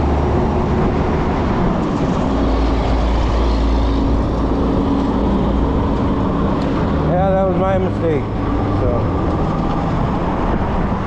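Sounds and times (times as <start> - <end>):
tires rolling hum: 0.0 - 11.0
wind rushing over microphone: 0.0 - 11.0.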